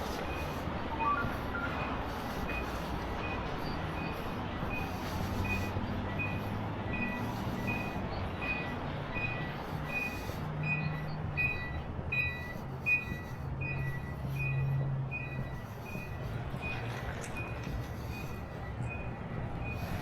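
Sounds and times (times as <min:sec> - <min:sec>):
backup alarm beeping: 0:00.3 - 0:20.0.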